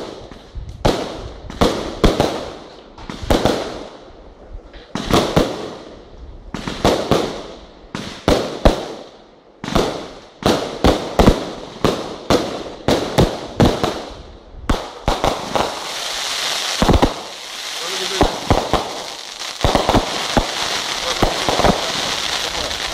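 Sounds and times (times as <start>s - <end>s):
fireworks bangs: 0.0s - 4.0s, 4.8s - 22.9s.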